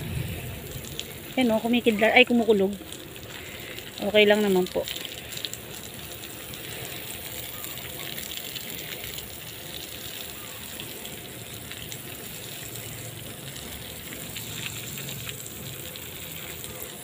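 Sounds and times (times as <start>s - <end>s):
garden hose spraying water: 0.0s - 17.0s.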